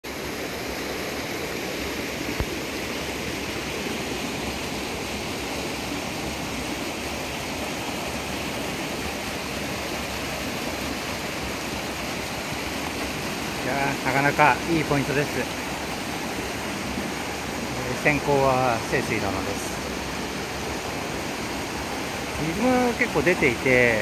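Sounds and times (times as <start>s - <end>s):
water rushing over waterfall: 0.1s - 24.0s.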